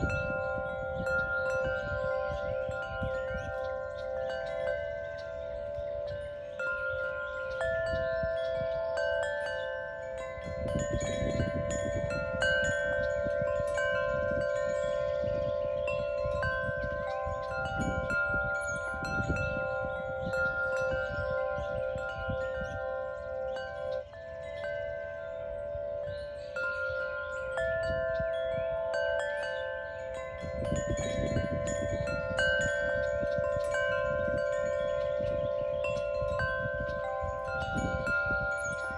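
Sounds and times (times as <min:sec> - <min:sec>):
wind chimes ringing: 0:00.0 - 0:38.9.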